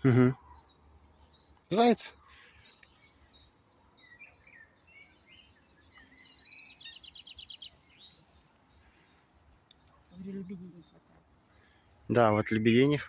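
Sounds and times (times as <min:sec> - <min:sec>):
faint songbirds chirping: 0:00.0 - 0:13.0.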